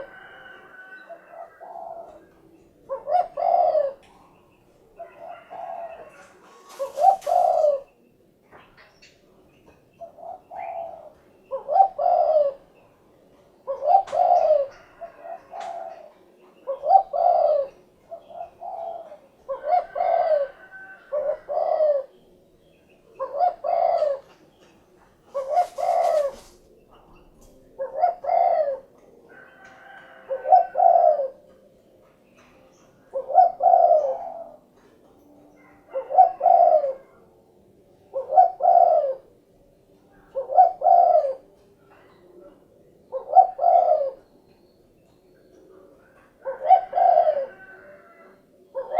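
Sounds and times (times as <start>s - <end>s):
dove cooing: 0.0s - 8.1s, 10.0s - 34.9s, 35.6s - 44.4s, 45.3s - 48.9s.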